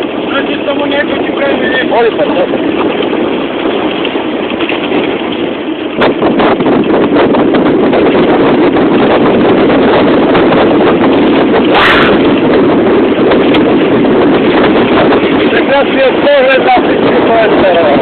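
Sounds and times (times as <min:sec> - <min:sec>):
bicycle road noise: 0:00.0 - 0:18.0
wind buffeting microphone: 0:00.0 - 0:18.0.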